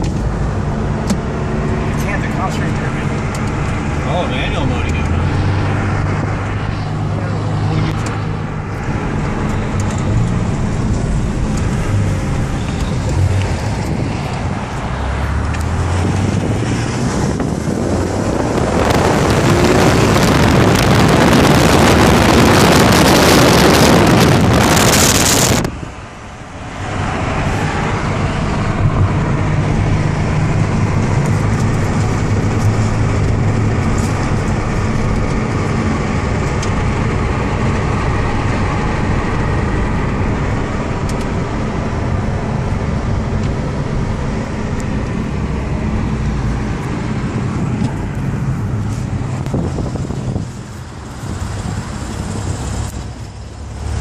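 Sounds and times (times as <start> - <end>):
car engine revving: 0.0 - 54.0
road noise: 0.0 - 54.0
wind rushing over microphone: 0.0 - 54.0.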